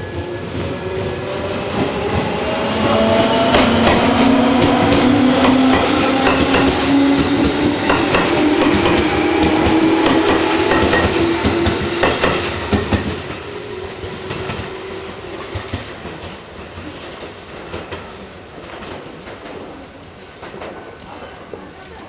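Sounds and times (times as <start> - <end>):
train wheels clacking: 1.3 - 21.6.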